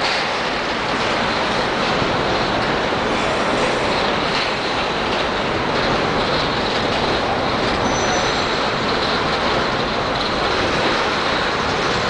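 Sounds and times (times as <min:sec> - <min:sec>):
steel wheels running on rails: 0:00.0 - 0:12.0.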